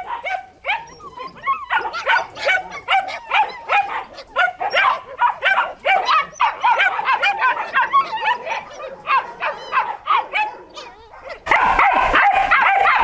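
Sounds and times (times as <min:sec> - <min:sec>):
puppies yipping and whining: 0:00.0 - 0:13.0.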